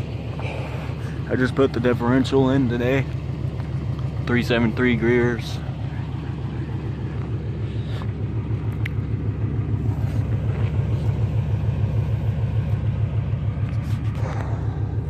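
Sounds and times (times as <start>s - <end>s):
engine idling low rumble: 0.0s - 15.0s.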